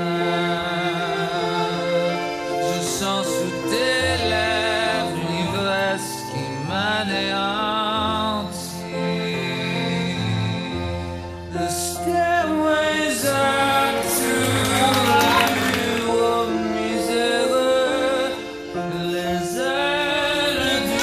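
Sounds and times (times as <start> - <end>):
music with singing voice: 0.0 - 21.0.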